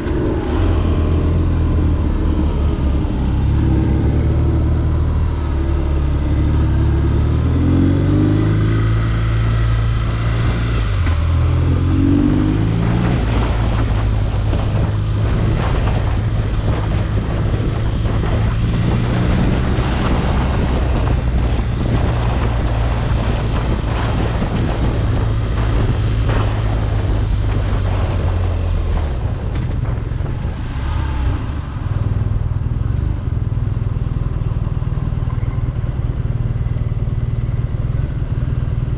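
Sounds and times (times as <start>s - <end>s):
motorcycle engine under way: 0.0s - 38.9s
wind noise on microphone: 0.0s - 38.9s.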